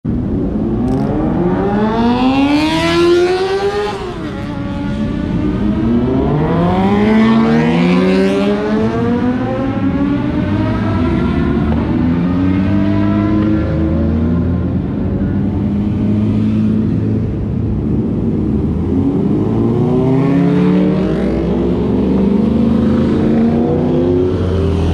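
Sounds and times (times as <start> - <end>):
motorbike engines revving: 0.2 - 24.9.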